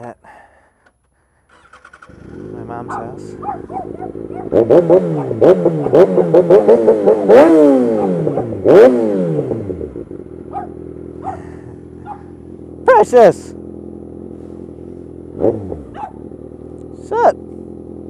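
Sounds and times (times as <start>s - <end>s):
motorcycle engine revving: 1.5s - 18.0s.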